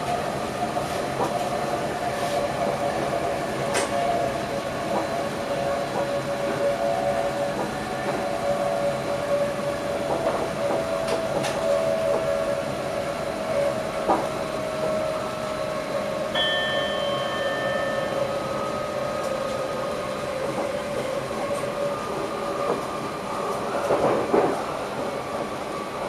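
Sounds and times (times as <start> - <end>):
electric train whine: 0.0 - 26.0.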